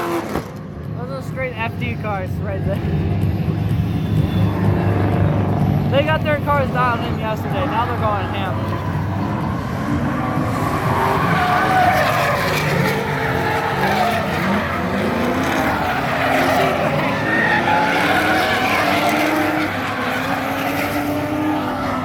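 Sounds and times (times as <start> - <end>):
car engines revving: 0.0 - 22.0
tyres squealing and skidding: 2.6 - 22.0.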